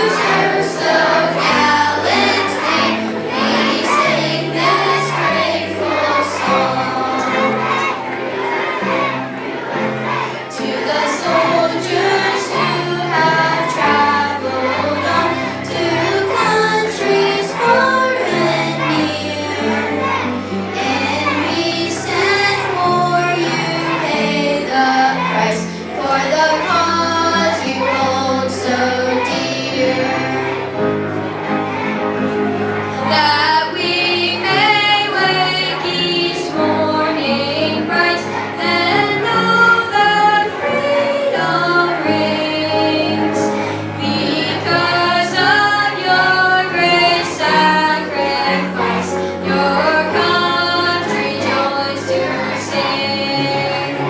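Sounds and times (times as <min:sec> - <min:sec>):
children's choir singing: 0:00.0 - 0:54.0
instrumental accompaniment: 0:00.0 - 0:54.0.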